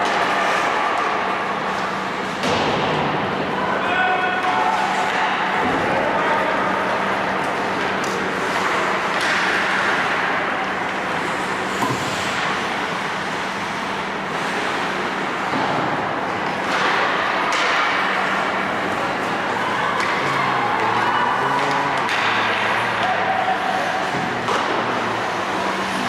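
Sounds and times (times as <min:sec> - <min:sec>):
ice rink crowd noise: 0:00.0 - 0:26.0.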